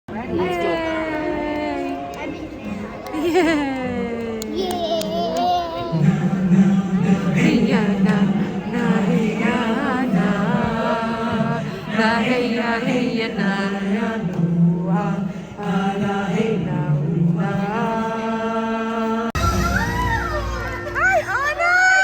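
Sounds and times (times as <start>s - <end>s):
voices singing together: 0.2s - 20.2s.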